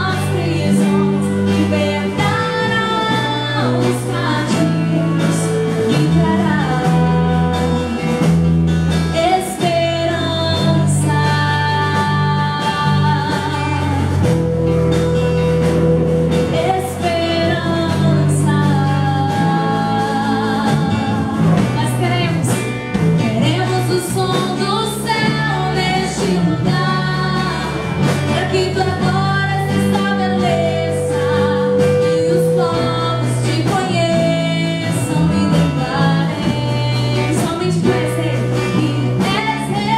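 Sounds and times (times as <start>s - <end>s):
person singing with vibrato: 0.0s - 14.6s, 16.3s - 39.9s
band with steady bass line: 0.0s - 39.9s.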